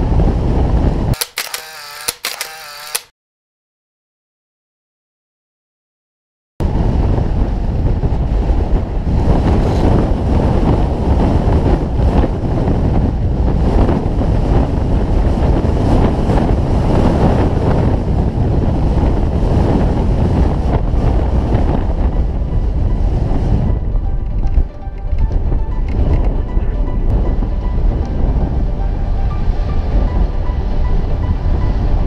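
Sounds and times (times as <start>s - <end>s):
wind buffeting microphone: 0.0s - 1.2s, 6.6s - 32.0s.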